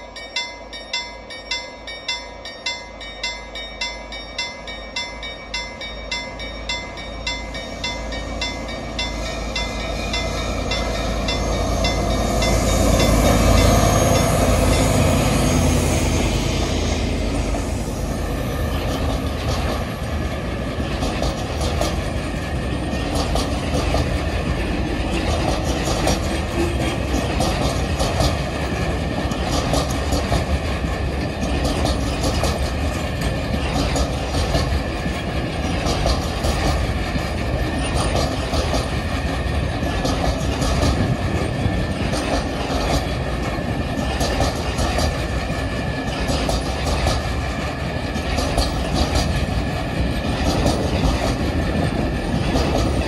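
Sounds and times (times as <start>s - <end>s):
diesel locomotive engines: 0.0s - 53.0s
wheels clacking over rail joints: 0.4s - 53.0s.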